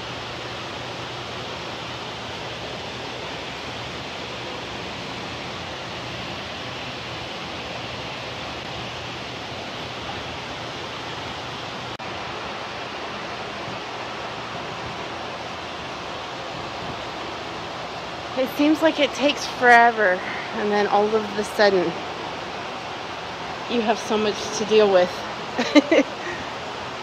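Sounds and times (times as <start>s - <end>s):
greenhouse fans rushing: 0.0s - 27.0s.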